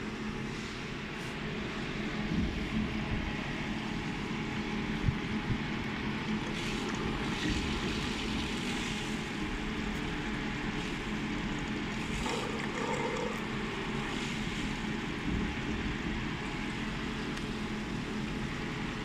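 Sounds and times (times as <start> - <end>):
cooling fans humming: 0.0 - 19.0.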